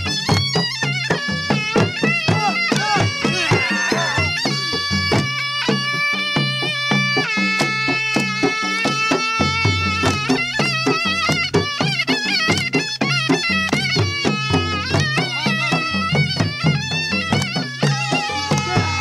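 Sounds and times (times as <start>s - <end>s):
drum beaten in dance rhythm: 0.0s - 19.0s
shrill reed wind instrument melody: 0.0s - 19.0s.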